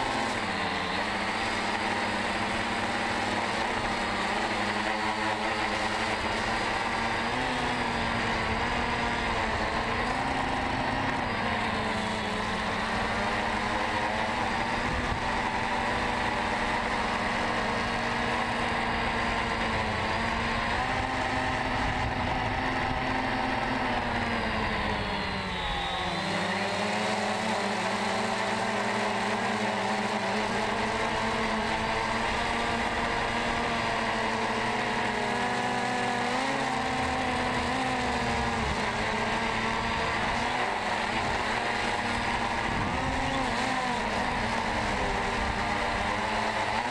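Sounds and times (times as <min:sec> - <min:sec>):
drone propellers whining: 0:00.0 - 0:46.9.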